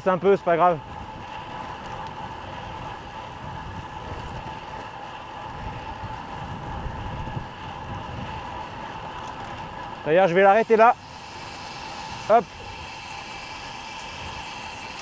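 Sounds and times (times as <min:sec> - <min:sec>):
bike tyres hissing on wet road: 0:00.0 - 0:15.0.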